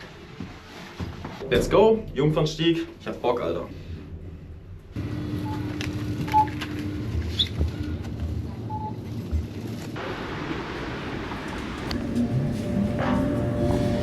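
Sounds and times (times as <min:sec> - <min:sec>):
low hum: 0:02.0 - 0:14.0
traffic rumble: 0:02.1 - 0:14.0.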